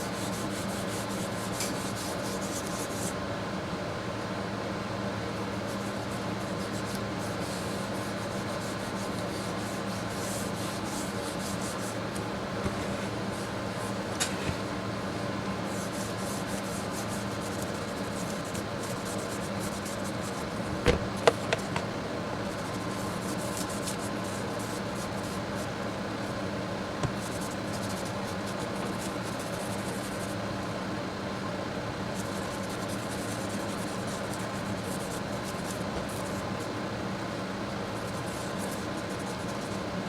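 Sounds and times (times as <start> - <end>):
constant low hum: 0.0 - 40.0.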